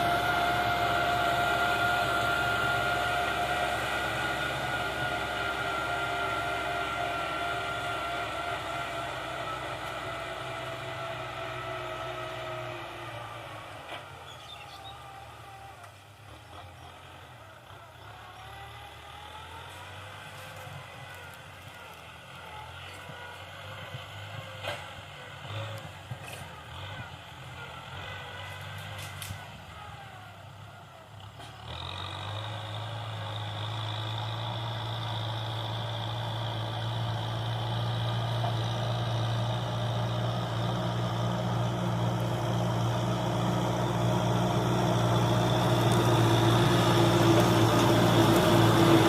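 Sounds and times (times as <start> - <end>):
tractor engine rumble: 0.0 - 49.0.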